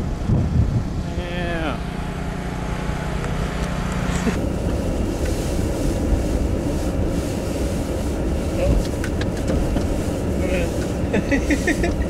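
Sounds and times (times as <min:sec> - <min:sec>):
car engine hum: 0:00.0 - 0:12.0
road and tyre rumble: 0:00.0 - 0:12.0.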